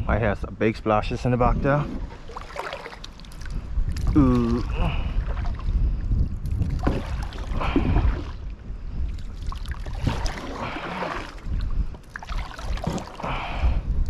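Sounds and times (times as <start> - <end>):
wind rumbling on microphone: 0.0 - 14.0
water splashing around kayak: 1.8 - 14.0.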